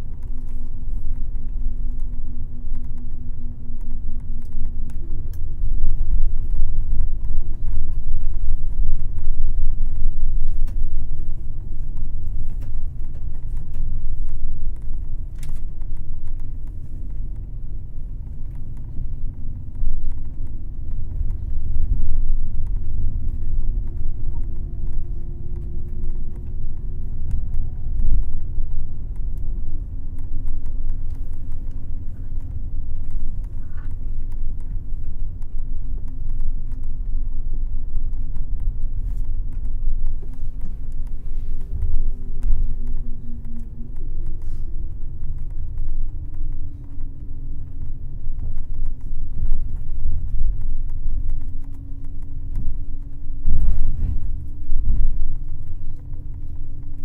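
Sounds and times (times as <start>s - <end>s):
coach engine and road rumble: 0.0s - 57.0s.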